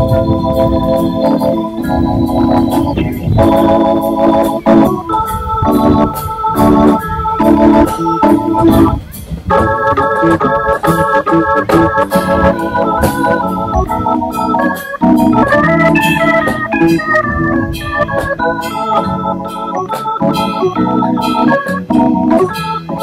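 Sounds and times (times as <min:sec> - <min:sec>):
drum kit with cymbal pulse: 0:00.0 - 0:23.0
electric bass: 0:00.0 - 0:23.0
organ playing chords and melody: 0:00.0 - 0:23.0.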